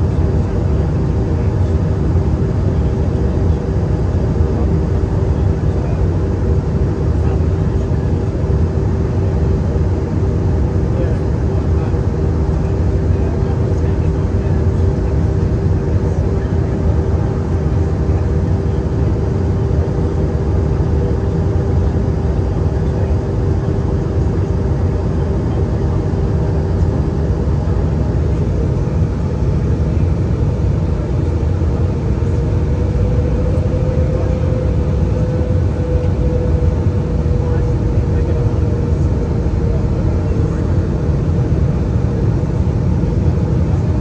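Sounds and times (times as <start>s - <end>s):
airplane cabin jet engine rumble: 0.0s - 44.0s.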